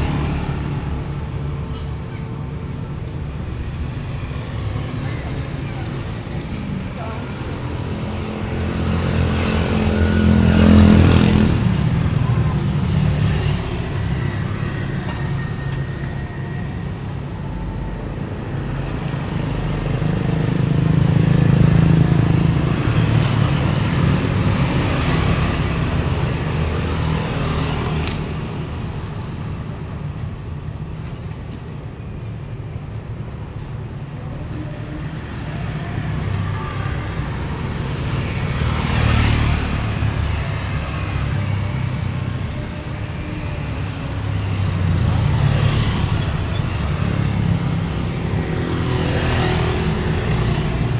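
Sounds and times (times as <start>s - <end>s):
cars and motorcycles passing: 0.0s - 50.9s.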